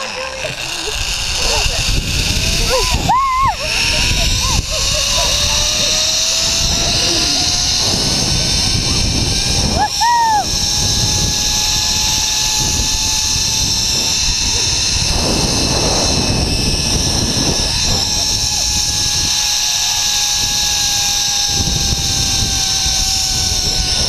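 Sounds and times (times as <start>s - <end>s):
wind rumble on microphone: 0.0s - 24.0s
zip line trolley whine: 0.0s - 24.0s.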